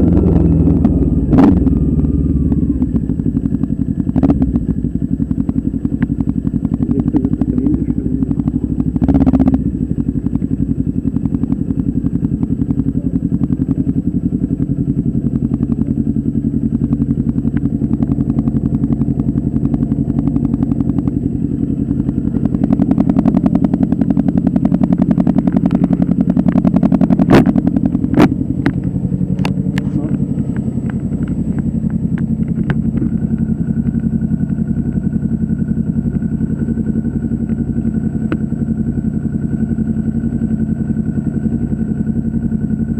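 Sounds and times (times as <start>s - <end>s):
engine running with even pulse: 0.0s - 42.9s.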